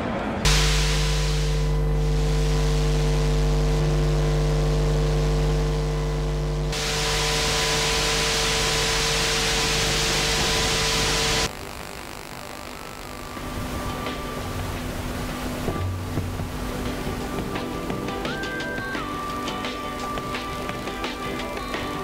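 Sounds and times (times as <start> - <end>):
electrical mains hum: 0.4 - 22.0
loud hiss: 0.5 - 22.0.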